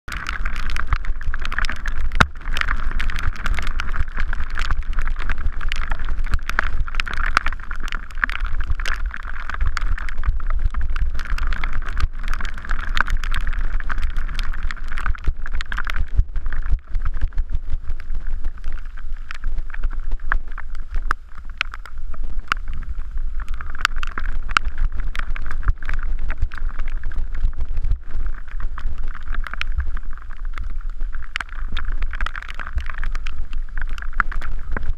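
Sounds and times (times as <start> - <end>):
wind rumbling on microphone: 0.0 - 34.9.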